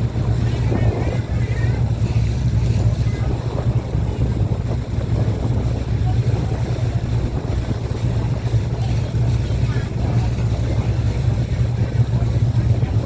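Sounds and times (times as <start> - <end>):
motorboat engine humming: 0.0 - 13.0
water rushing along hull: 0.0 - 13.0.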